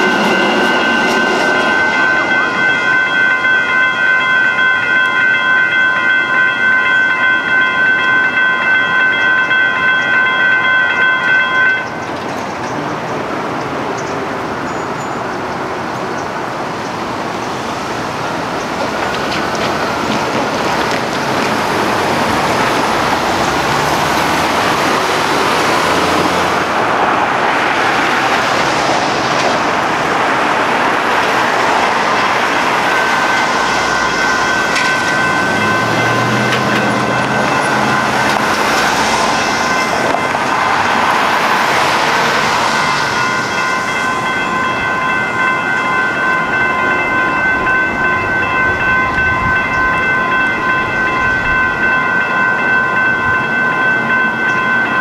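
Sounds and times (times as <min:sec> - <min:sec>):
crossing warning bells ringing: 0:00.0 - 0:55.0
train wheels rumbling on rail: 0:00.0 - 0:55.0.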